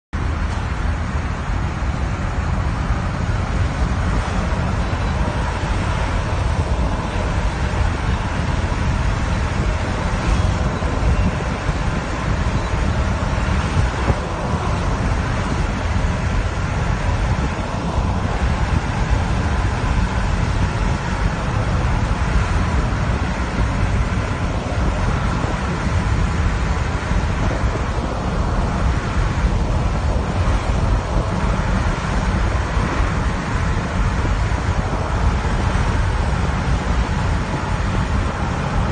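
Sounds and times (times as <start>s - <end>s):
vehicle road noise: 0.0s - 38.9s
wind buffeting microphone: 0.2s - 38.9s.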